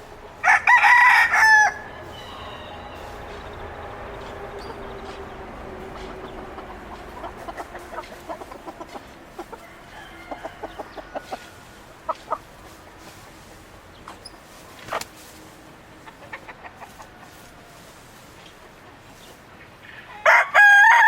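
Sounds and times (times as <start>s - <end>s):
chickens clucking: 0.0s - 20.8s.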